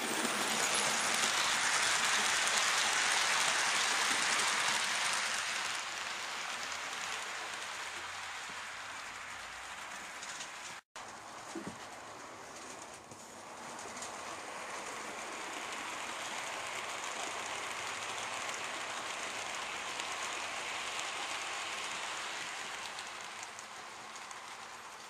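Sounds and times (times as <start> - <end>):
train wheels rushing on rails: 0.0 - 25.0.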